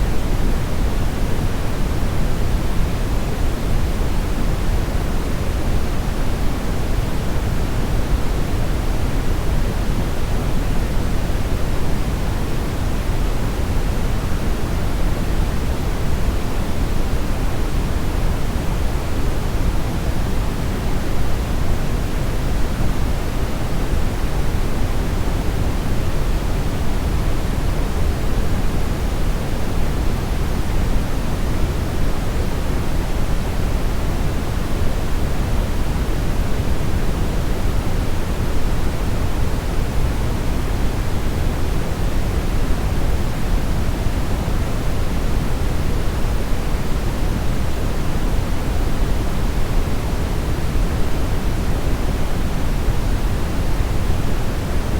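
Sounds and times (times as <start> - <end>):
brown noise hiss: 0.0 - 54.9.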